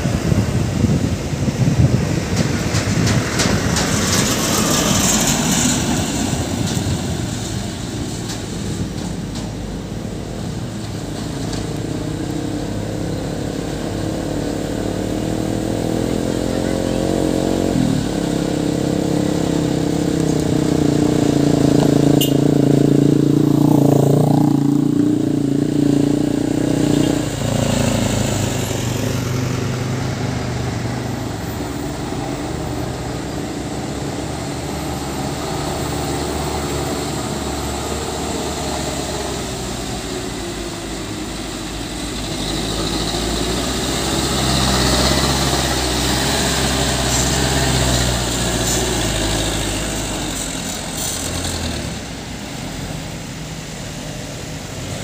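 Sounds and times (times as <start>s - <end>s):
diesel truck engines driving past: 0.0s - 55.0s
tyres on gravel road: 0.0s - 55.0s.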